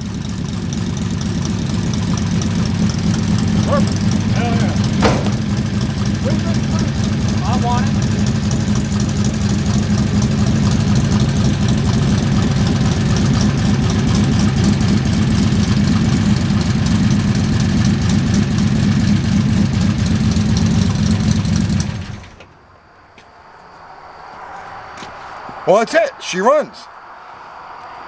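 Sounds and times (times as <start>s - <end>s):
loud engine idling: 0.0s - 23.6s.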